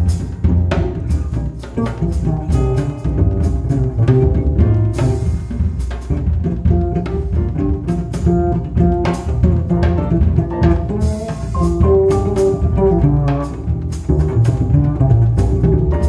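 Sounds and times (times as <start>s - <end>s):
drum kit groove with cymbals: 0.0s - 16.0s
plucked double bass: 0.0s - 16.0s.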